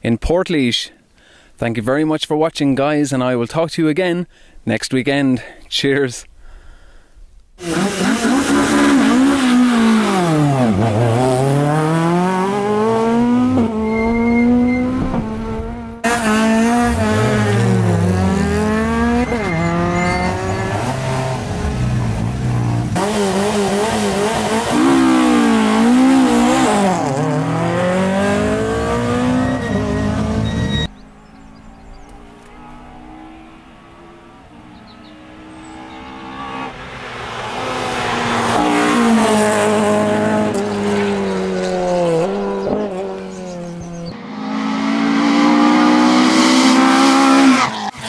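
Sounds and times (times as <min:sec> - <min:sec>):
rally car engines revving: 0:07.6 - 0:48.0.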